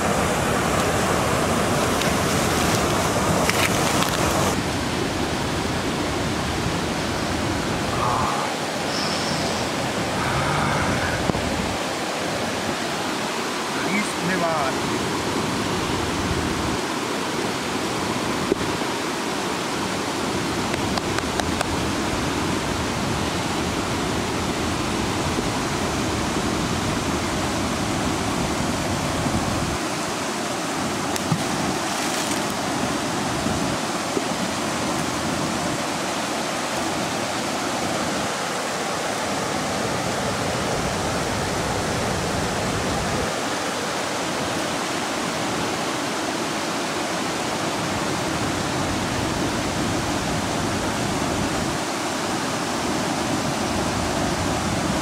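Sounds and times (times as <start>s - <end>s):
river water rushing over weir: 0.0s - 55.0s.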